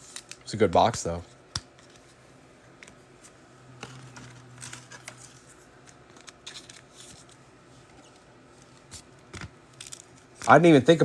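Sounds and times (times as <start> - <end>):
trading cards being handled: 0.0 - 10.9.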